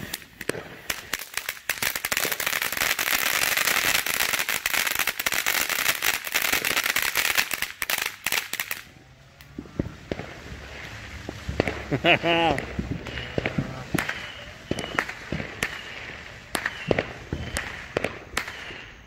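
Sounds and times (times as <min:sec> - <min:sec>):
firework fountain crackling: 0:00.0 - 0:19.0
firework fountain hissing: 0:00.0 - 0:19.0.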